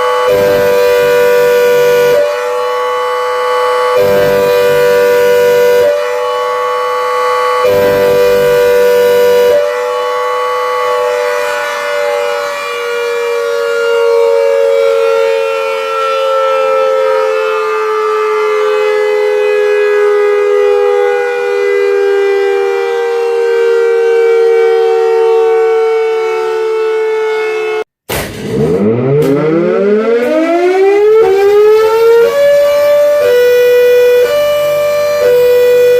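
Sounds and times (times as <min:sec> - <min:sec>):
air raid siren: 0:00.0 - 0:35.9.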